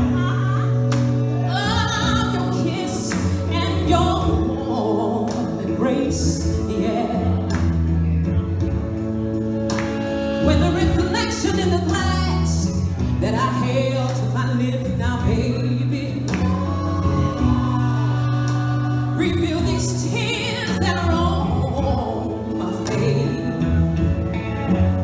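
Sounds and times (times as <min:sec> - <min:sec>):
song with sung vocals: 0:00.0 - 0:08.5, 0:09.5 - 0:25.0
steady bass line: 0:00.0 - 0:25.0.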